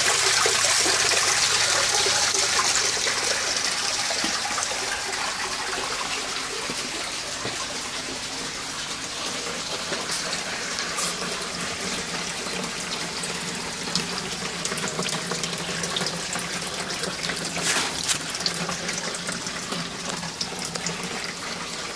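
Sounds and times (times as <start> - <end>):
water pouring and splashing: 0.0 - 21.9.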